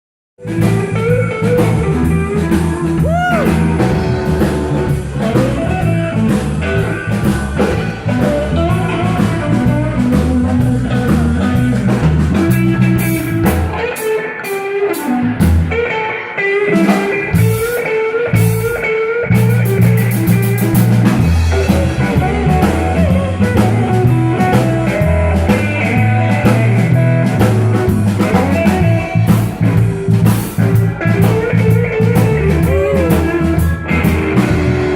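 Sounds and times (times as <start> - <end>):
bass guitar: 0.4 - 34.9
blues guitar lead: 0.4 - 34.9
drum kit: 0.4 - 34.9.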